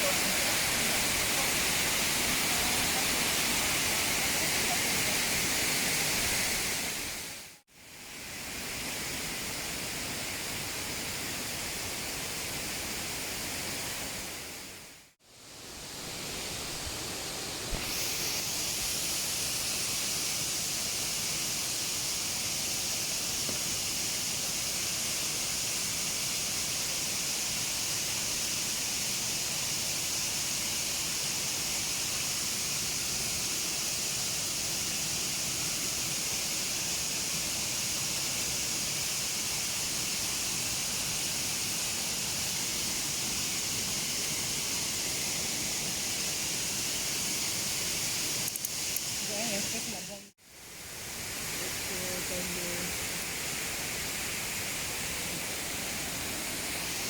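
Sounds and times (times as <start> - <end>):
waterfall and rain hissing: 0.0 - 57.0.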